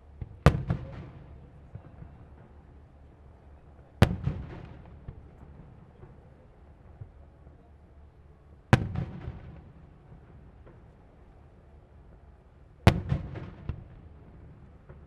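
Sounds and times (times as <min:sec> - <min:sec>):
rolling echo and crackle: 0:00.0 - 0:15.0.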